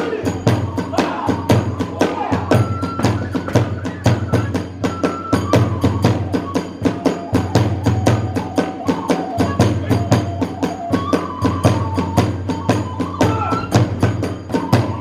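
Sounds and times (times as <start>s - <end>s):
drums beating: 0.0s - 15.0s
flute melody: 0.0s - 15.0s
hand cymbals struck: 0.0s - 15.0s.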